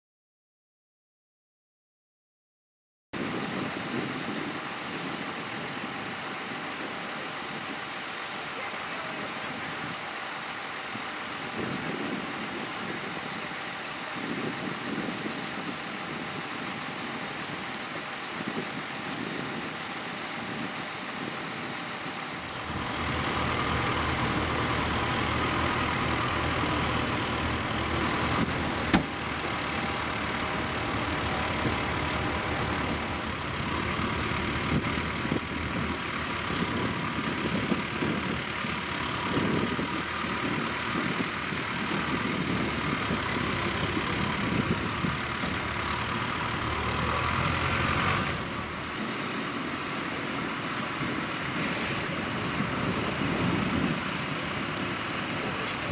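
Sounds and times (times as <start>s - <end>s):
tractor engines running: 3.2s - 55.9s.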